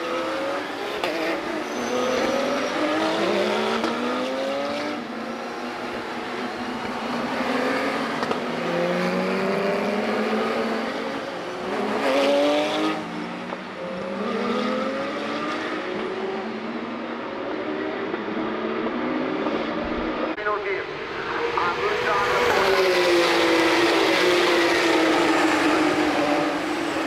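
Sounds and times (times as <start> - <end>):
race cars passing: 0.0 - 27.0.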